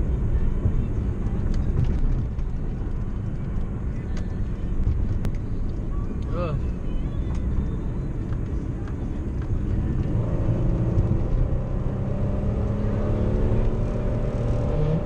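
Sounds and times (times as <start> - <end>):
car engine and road noise: 0.0 - 15.0
faint engine hum: 0.0 - 15.0.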